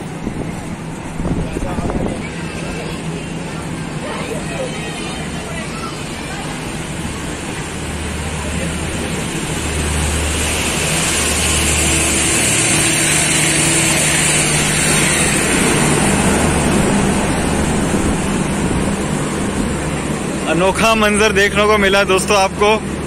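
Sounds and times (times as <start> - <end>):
power van hum: 0.0 - 23.0
train wheels rumbling on rail: 0.0 - 23.0.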